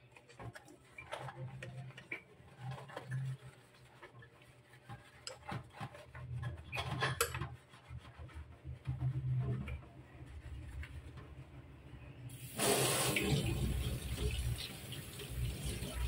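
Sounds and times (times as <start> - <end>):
sponge scrubbing wet cloth: 0.0 - 11.8, 12.4 - 16.0.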